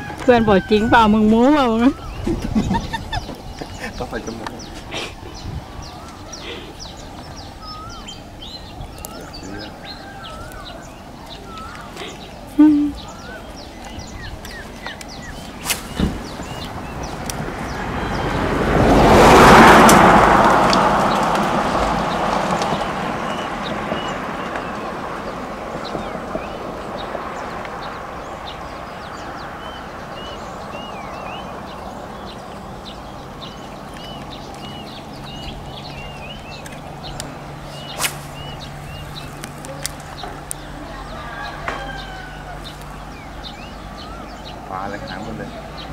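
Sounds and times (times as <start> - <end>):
small birds chirping: 0.0 - 18.7, 21.0 - 45.9
vehicle passing: 0.0 - 45.9.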